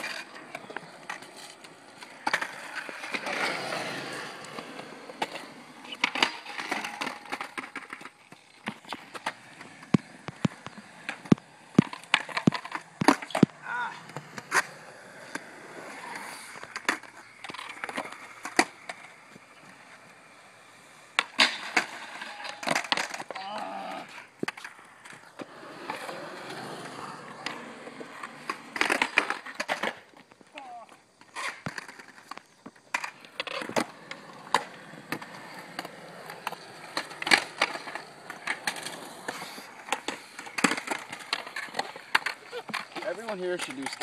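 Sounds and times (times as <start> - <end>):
skateboard deck clacking on concrete: 0.0 - 44.0
skateboard wheels rolling on concrete: 0.0 - 44.0.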